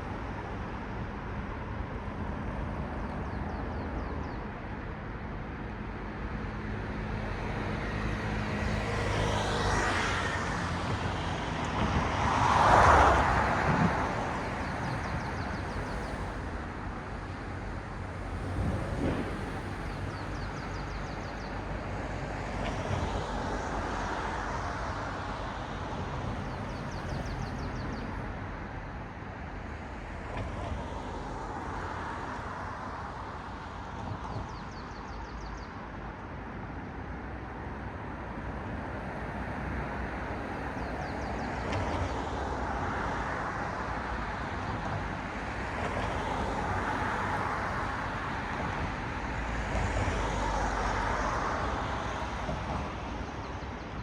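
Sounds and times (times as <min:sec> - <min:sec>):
cars passing on road: 0:00.0 - 0:54.0
traffic hum: 0:00.0 - 0:54.0.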